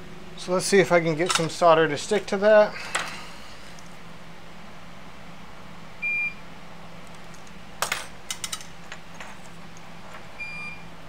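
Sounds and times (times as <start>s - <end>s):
low equipment hum: 0.0s - 11.0s.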